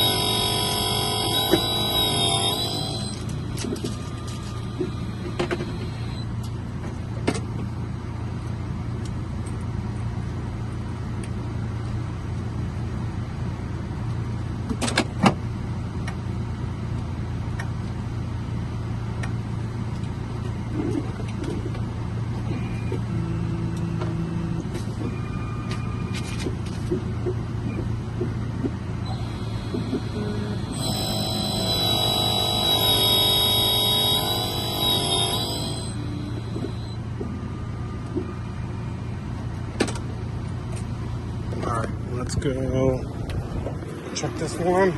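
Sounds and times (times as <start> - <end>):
car engine humming: 0.0 - 14.7, 15.6 - 44.9.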